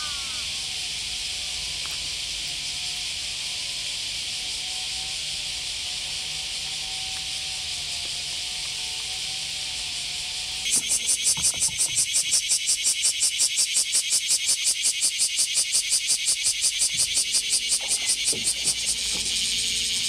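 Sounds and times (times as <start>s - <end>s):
cicadas chorusing: 0.0s - 20.0s.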